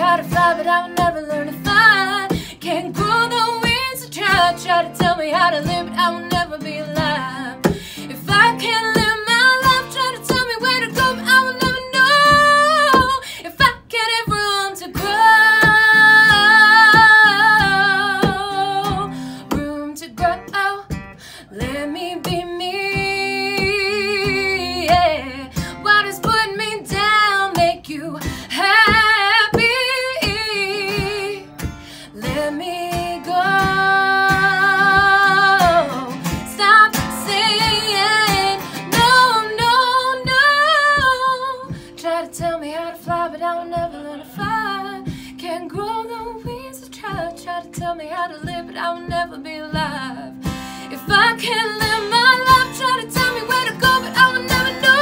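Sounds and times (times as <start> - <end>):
strummed acoustic guitar: 0.0 - 55.0
woman singing with vibrato: 0.0 - 55.0.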